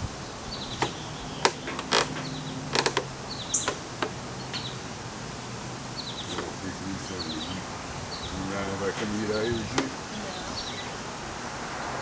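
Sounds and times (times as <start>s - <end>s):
small birds calling: 0.0s - 12.0s.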